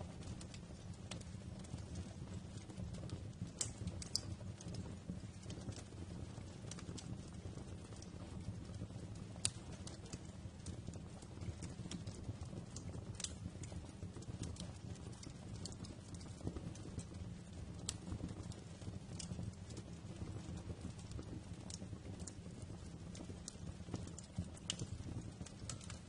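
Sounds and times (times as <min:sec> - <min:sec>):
low rumble of burning fire: 0:00.0 - 0:26.0
wood fire pops and snaps: 0:00.0 - 0:26.0.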